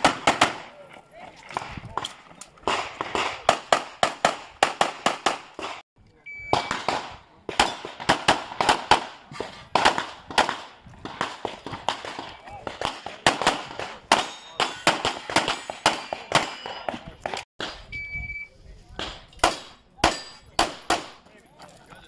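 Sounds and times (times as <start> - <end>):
pistol shots with echo: 0.0 - 0.7, 1.5 - 5.8, 6.5 - 17.8, 19.0 - 21.3.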